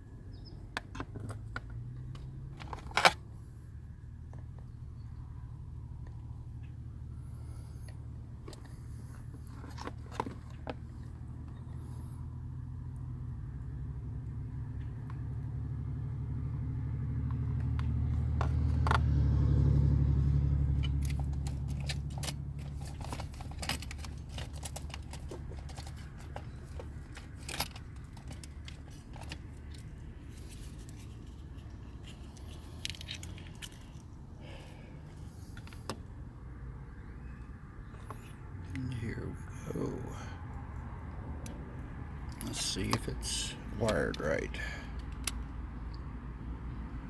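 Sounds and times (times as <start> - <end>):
low engine-like rumble: 0.0 - 47.0.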